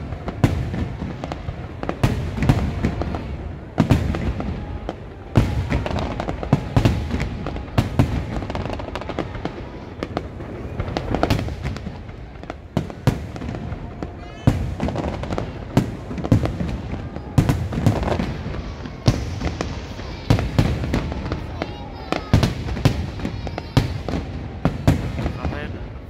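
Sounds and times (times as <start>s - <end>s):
firework booms: 0.0s - 26.0s
firework pops and crackling: 0.0s - 26.0s.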